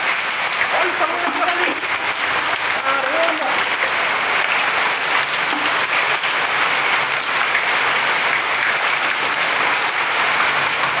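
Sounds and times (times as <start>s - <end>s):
hail and heavy rain clattering: 0.0s - 11.0s.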